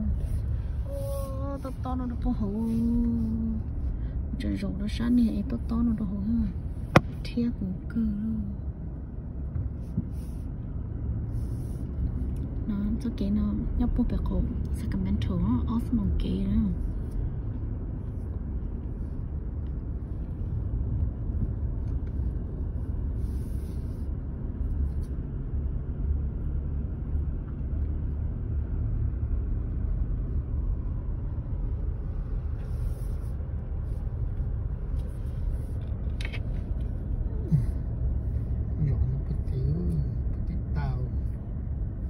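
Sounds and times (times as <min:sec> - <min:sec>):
engine and tyre rumble: 0:00.0 - 0:42.0.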